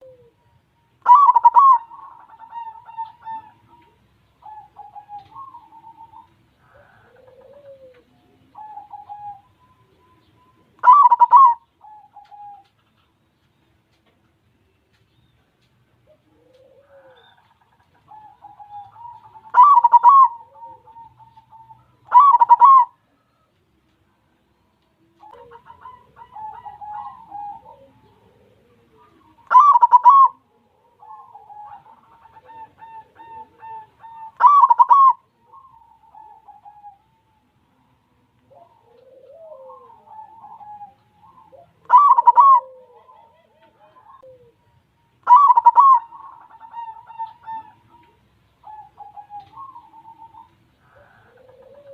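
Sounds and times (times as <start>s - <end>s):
dove cooing: 0.0s - 13.1s, 15.9s - 23.6s, 25.0s - 51.9s.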